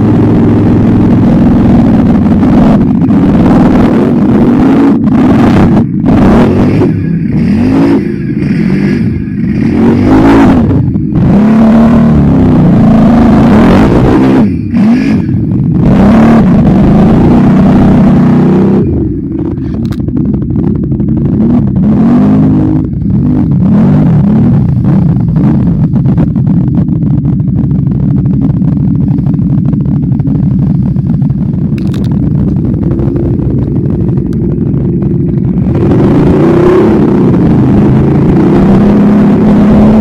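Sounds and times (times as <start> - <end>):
engine revving hard: 0.0 - 19.8, 21.2 - 26.3, 30.8 - 40.0.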